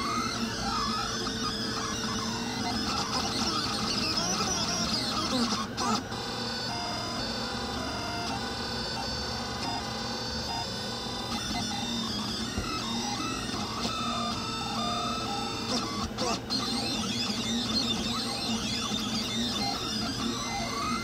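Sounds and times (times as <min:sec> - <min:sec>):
cooling fans whirring: 0:00.0 - 0:21.0
stepper motors whining: 0:00.0 - 0:21.0.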